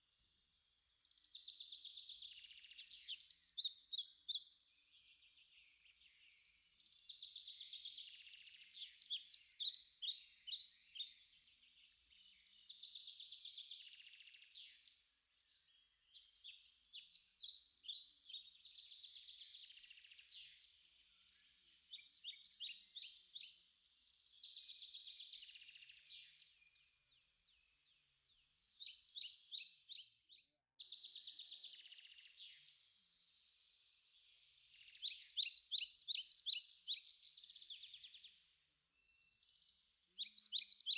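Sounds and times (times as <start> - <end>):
birds chirping and trilling: 0.2 - 40.9.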